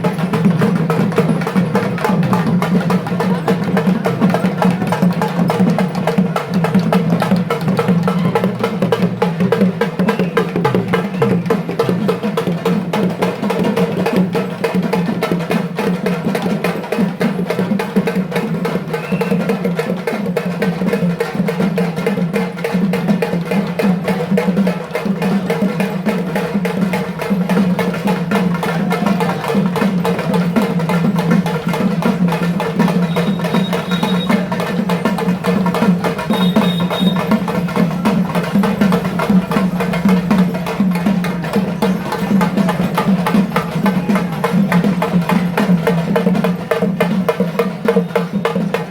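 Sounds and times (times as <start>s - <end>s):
fast drumming: 0.0s - 48.9s.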